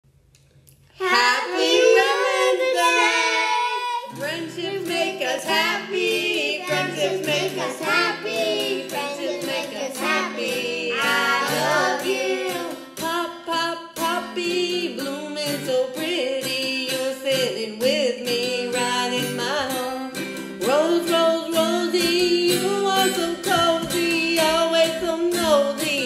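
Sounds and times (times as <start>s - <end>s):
acoustic guitar strumming: 1.0s - 26.0s
woman and girls singing: 1.0s - 26.0s.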